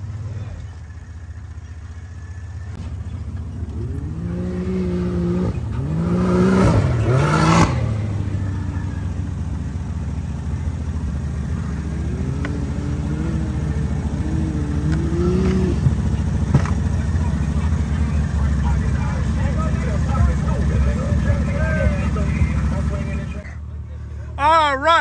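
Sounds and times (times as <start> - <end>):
utv engine revving: 0.0 - 25.0.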